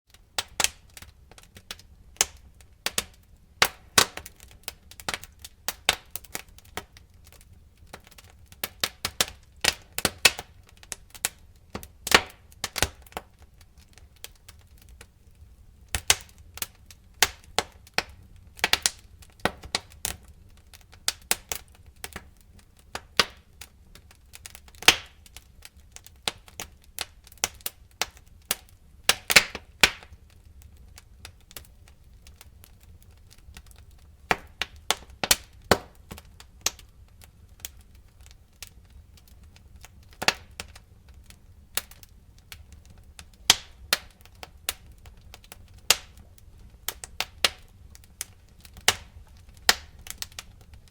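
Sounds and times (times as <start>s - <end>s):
wood fire crackling: 0.1s - 50.9s.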